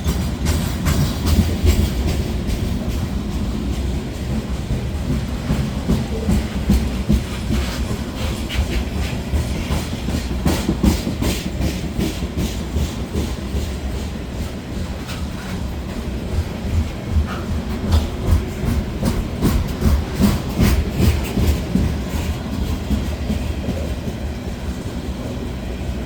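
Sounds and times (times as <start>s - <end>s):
wheels clanking over rail joints: 0.0s - 25.7s
freight train low rumble: 0.0s - 26.0s.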